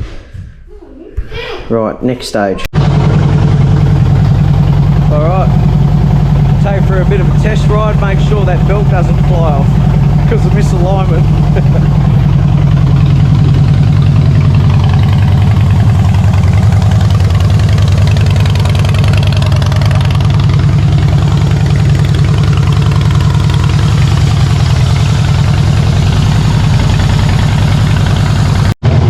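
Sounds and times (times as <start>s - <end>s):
motorcycle engine idling: 2.8s - 29.0s.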